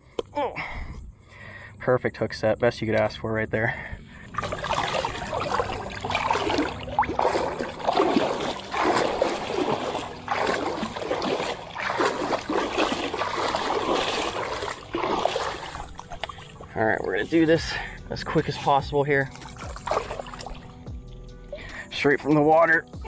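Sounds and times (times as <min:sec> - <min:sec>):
water splashing and sloshing: 0:03.8 - 0:23.0.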